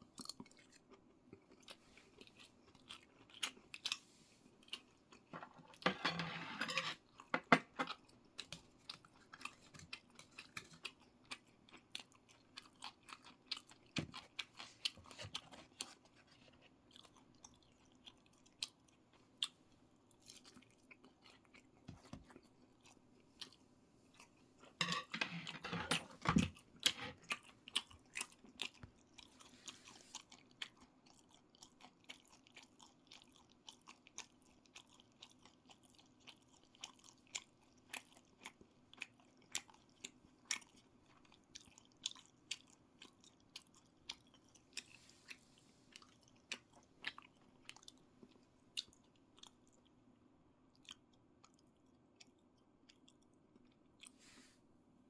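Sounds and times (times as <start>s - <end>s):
person chewing food: 0.0s - 5.8s, 6.9s - 54.6s.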